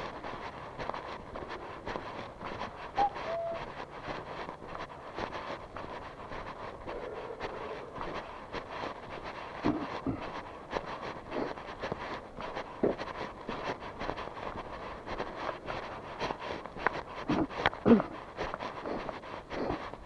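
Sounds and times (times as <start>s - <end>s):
footsteps on street: 0.0s - 20.0s.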